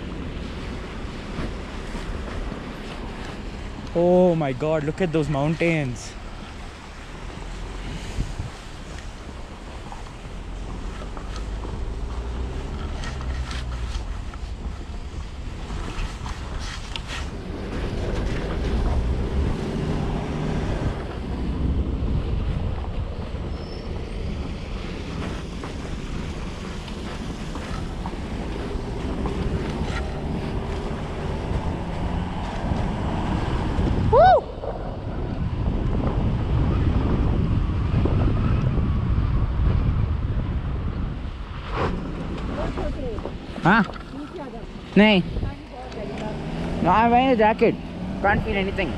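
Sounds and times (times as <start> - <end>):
wind on microphone: 0.0 - 4.3, 5.0 - 48.9
car engine and tyre rumble: 0.0 - 48.9.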